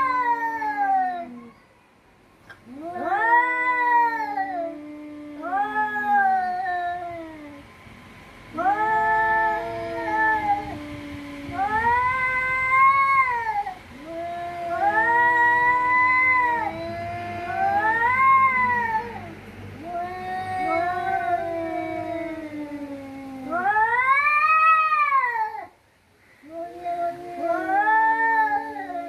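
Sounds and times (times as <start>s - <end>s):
cats yowling in a fight: 0.0s - 1.5s, 2.5s - 7.7s, 8.5s - 25.8s, 26.4s - 29.0s.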